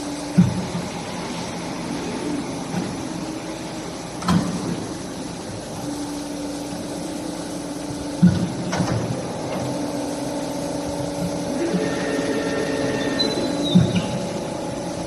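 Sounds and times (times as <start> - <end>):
pipe bending machine humming: 0.0 - 15.0.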